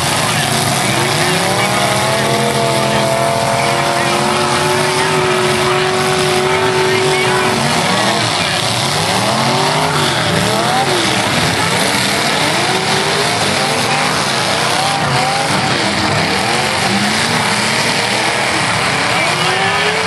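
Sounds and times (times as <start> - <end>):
car engines revving: 0.0 - 20.0
constant wash of noise: 0.0 - 20.0.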